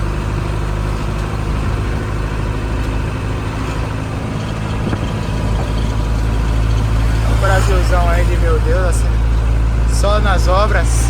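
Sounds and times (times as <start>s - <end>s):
diesel truck engine driving: 0.0s - 11.0s.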